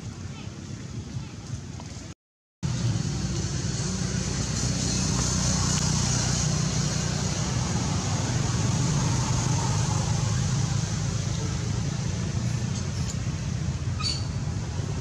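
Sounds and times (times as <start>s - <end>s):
motor traffic drone: 2.6s - 15.0s.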